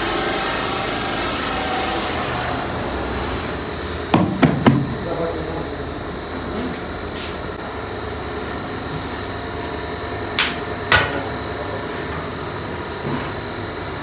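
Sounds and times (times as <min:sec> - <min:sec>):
factory machinery whining: 0:00.0 - 0:14.0.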